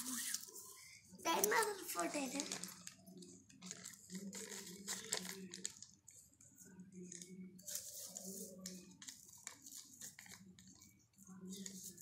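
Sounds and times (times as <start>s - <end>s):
paper rustling and crinkling: 0.0s - 6.3s, 7.0s - 12.0s.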